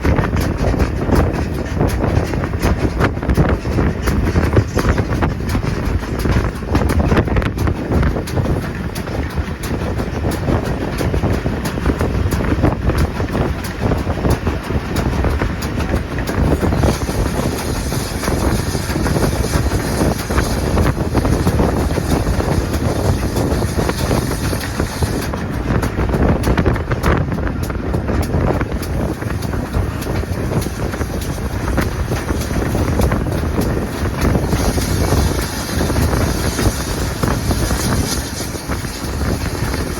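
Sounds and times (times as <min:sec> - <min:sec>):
train wheels rumbling on rail: 0:00.0 - 0:39.9
wind buffeting microphone: 0:00.0 - 0:39.9.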